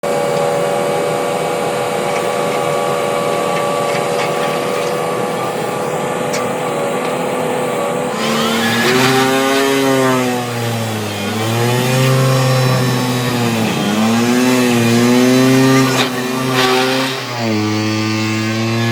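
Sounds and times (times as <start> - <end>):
vibratory pile driver humming: 0.0 - 18.9.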